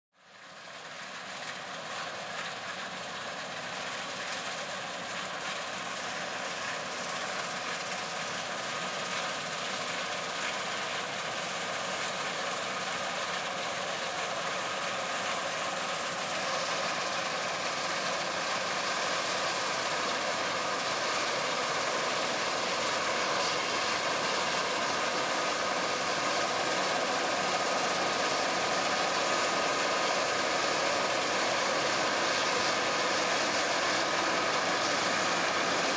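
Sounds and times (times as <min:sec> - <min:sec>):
combine harvester humming and whining: 0:00.3 - 0:35.9.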